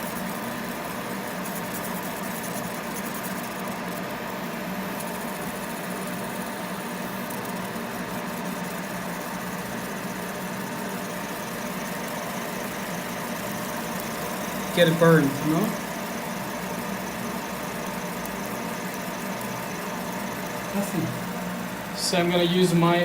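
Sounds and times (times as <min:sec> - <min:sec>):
machine hum with fan noise: 0:00.0 - 0:23.0.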